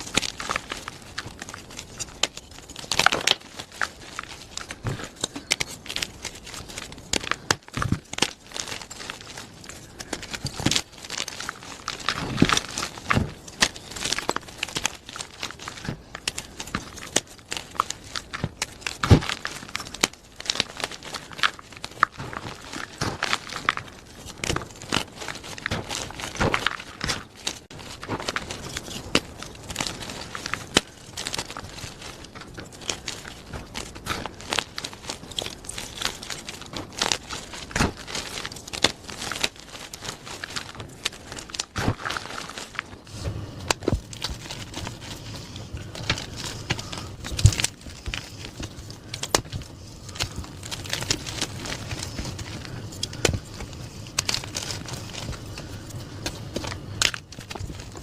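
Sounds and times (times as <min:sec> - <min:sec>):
chalk crunching and crackling: 0:00.0 - 0:58.0.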